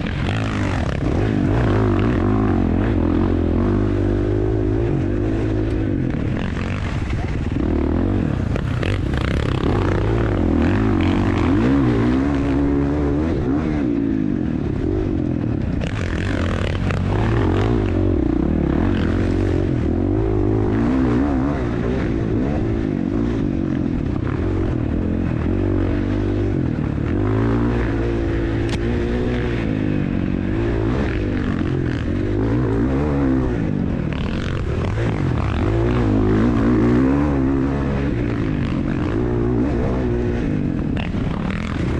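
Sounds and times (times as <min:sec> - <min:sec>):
dirt bike engine revving: 0:00.0 - 0:41.9
steady rushing noise: 0:00.0 - 0:41.9.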